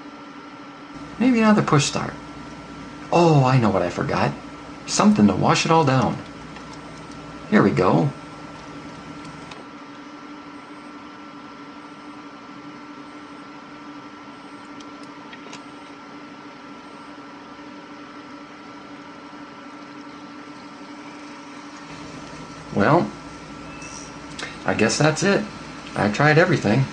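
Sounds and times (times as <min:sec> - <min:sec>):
hard drive electrical hum: 0:00.0 - 0:26.9.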